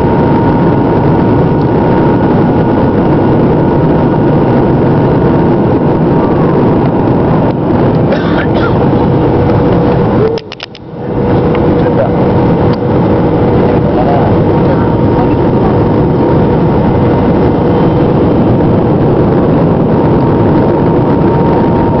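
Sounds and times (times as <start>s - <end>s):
airliner engines and airflow: 0.0s - 22.0s
faint steady whine: 0.0s - 22.0s.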